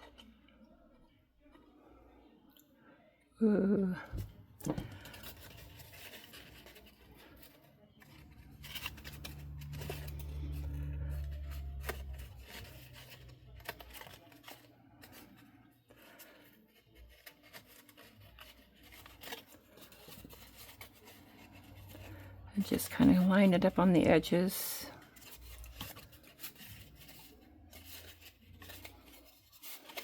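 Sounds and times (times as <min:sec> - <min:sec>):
paper rustling: 0:04.2 - 0:30.0.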